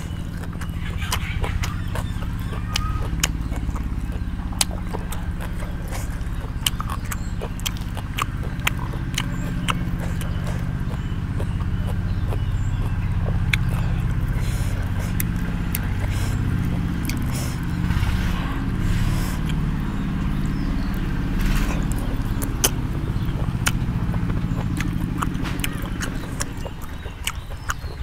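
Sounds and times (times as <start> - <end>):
crunchy chewing: 0.0 - 28.0
mouth clicks and smacks: 0.0 - 28.0
steady low hum: 0.0 - 28.0.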